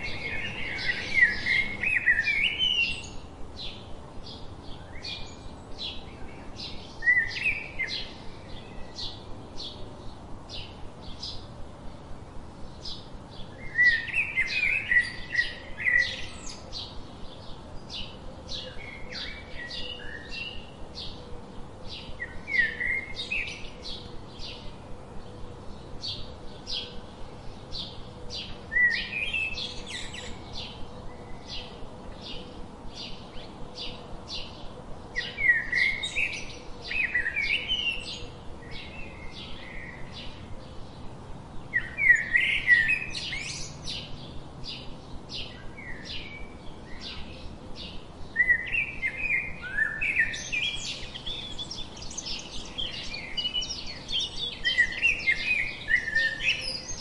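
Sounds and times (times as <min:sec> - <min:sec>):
sparrows chattering calls: 0:00.0 - 0:11.6, 0:12.7 - 0:57.0
sparrows chirping: 0:00.0 - 0:57.0.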